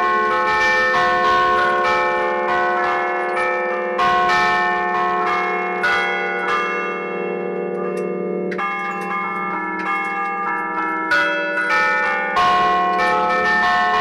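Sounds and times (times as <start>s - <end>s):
church bells ringing peal: 0.0s - 14.0s.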